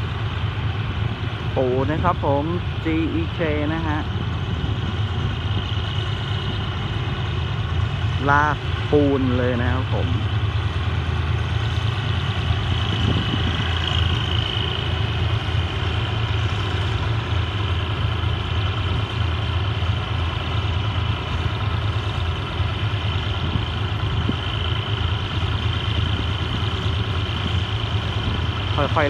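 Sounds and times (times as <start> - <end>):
locomotive diesel engine running: 0.0 - 29.0.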